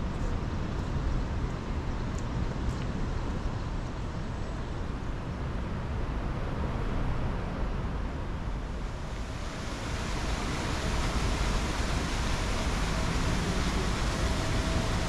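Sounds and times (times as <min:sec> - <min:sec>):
outdoor city ambience: 0:00.0 - 0:15.0.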